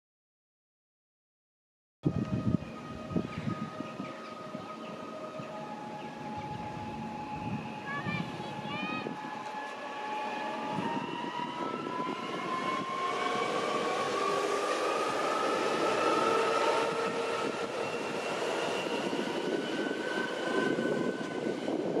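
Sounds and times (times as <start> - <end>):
electric train traction whine: 2.1 - 22.0
wheel and rail noise: 2.1 - 22.0.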